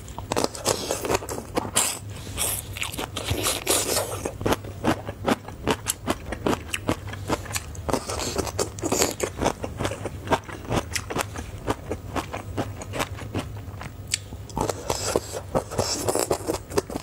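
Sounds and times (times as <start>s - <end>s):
crunchy biting and chewing: 0.0s - 17.0s.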